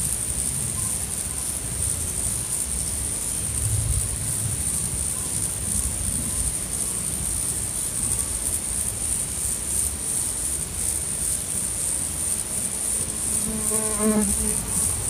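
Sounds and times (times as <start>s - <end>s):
high-pitched hiss with flutter: 0.0s - 15.0s.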